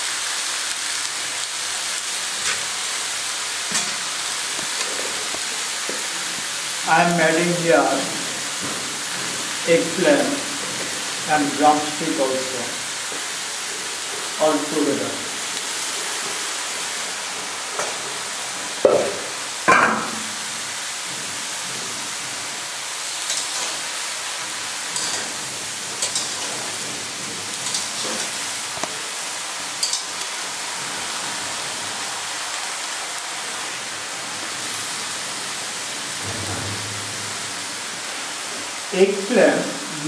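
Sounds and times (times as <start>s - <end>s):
vegetables sizzling in a wok: 0.0s - 40.0s.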